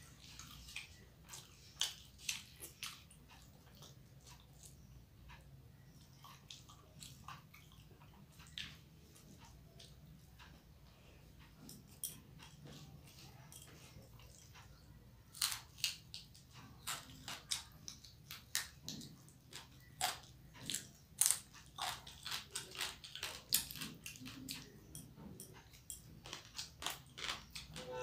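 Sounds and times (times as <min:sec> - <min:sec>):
woman chewing food: 0:00.0 - 0:28.0.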